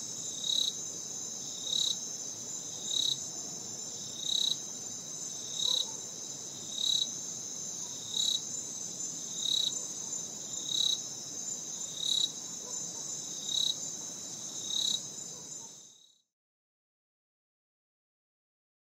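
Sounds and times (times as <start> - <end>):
insect short chirp: 0.0 - 16.2
insects high-pitched trill: 0.0 - 16.2.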